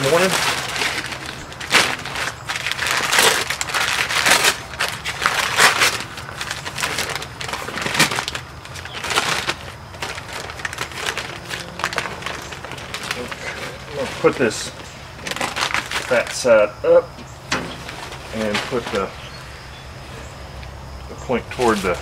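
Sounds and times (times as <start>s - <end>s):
plastic bag and paper crinkling: 0.0s - 16.8s, 17.5s - 20.4s, 21.1s - 22.0s.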